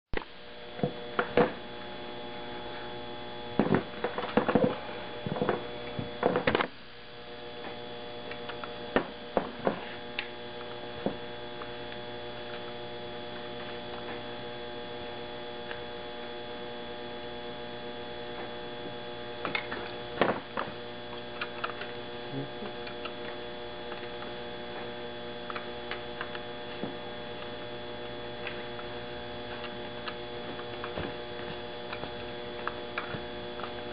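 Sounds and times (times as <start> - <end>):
steady electrical hum: 0.1 - 33.9.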